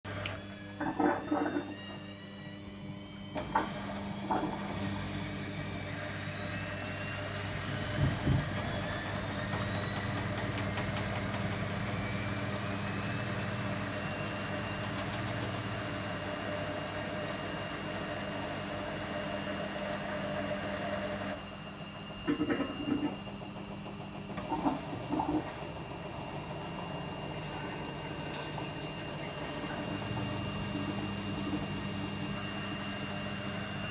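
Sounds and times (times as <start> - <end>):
washing machine grinding: 0.1 - 21.4, 22.2 - 33.9
rising whine: 0.2 - 33.9.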